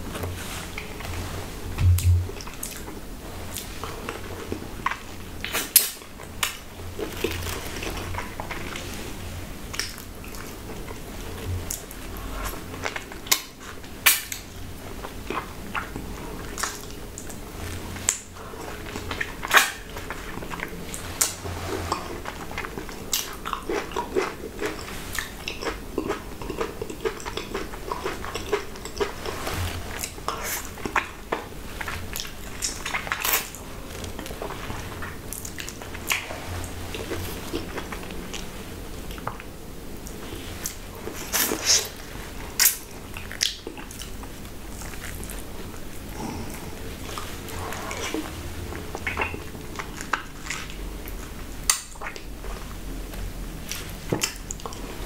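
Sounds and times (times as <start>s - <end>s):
chewing juicy fruit: 0.0s - 55.0s.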